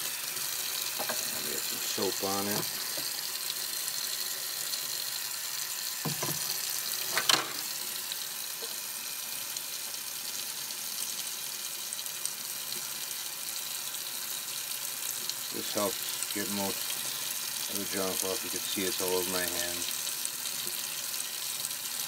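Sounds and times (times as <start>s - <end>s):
tap water running into sink: 0.0s - 22.0s.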